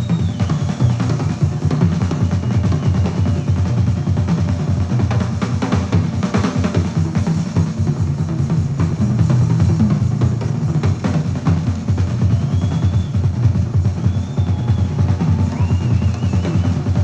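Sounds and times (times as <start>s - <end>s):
music with drums and heavy bass: 0.0s - 17.0s.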